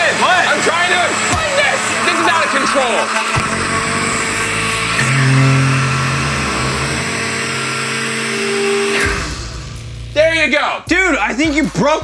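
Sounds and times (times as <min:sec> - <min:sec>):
electric blender motor running: 0:00.0 - 0:09.8.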